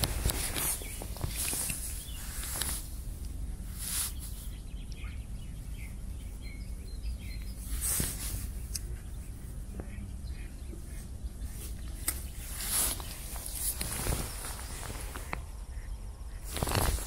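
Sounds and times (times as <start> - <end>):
rustle: 0.0 - 10.2, 10.9 - 15.5, 16.4 - 17.0
faint bird chirps: 0.2 - 17.0.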